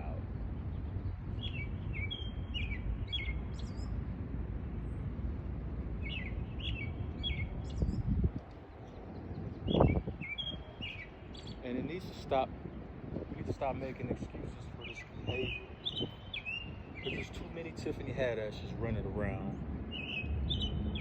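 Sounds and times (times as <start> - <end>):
small birds chirping: 0.0 - 4.0, 6.0 - 21.0.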